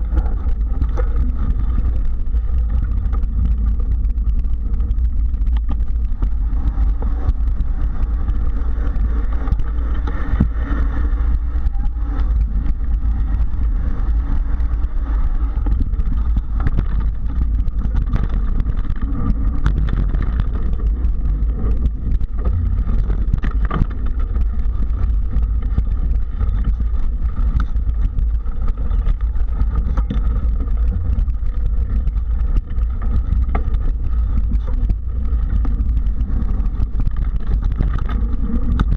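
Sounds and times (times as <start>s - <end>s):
bike clicks and rattles: 0.0s - 38.9s
bike rolling over dirt trail: 0.0s - 38.9s.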